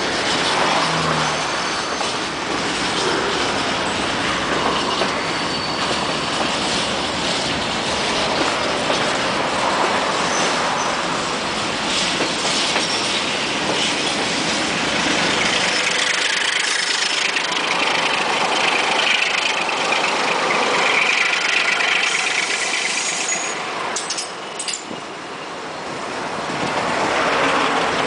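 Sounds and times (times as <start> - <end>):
freight wagons rolling over rails: 0.0 - 25.1
diesel locomotive engine running: 0.0 - 28.0.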